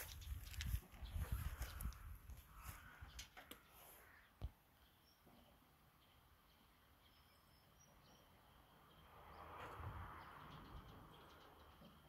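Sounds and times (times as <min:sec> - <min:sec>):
faint outdoor hiss: 0:00.0 - 0:11.8.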